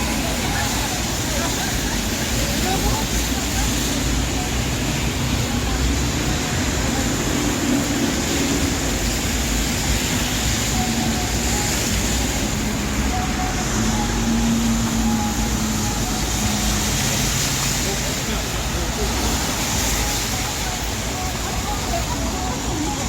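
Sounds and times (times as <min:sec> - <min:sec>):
rain: 0:00.0 - 0:23.0
traffic on wet roads: 0:00.0 - 0:23.0.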